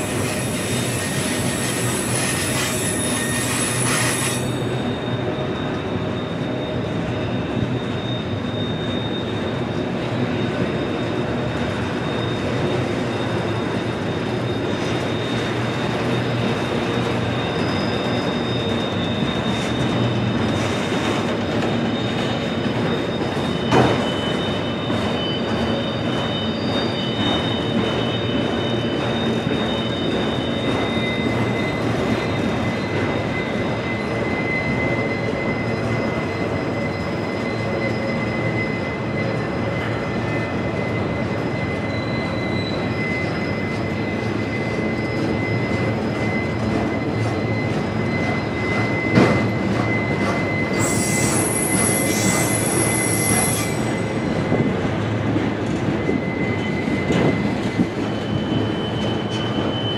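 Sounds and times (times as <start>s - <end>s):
freight cars rolling on rails: 0.0s - 59.9s
wheel squeal: 0.0s - 59.9s.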